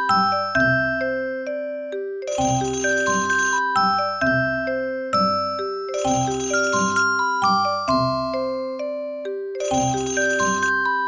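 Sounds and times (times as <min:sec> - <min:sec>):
phone ringtone melody: 0:00.0 - 0:01.0, 0:02.2 - 0:11.0.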